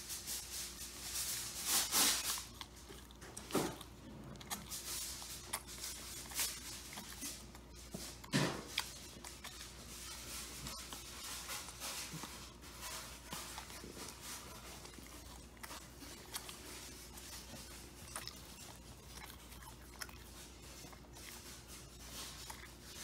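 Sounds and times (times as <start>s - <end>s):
crunching or rustling: 0.1s - 23.0s
person chewing: 1.6s - 23.0s.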